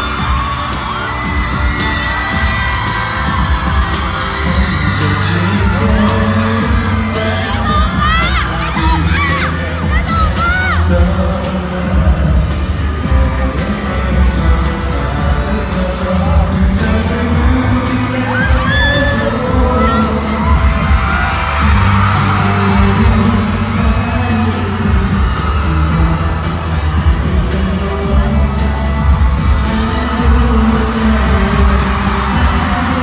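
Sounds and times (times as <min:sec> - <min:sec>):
fans screaming and cheering: 0:00.0 - 0:33.0
pop music over speakers: 0:00.0 - 0:33.0.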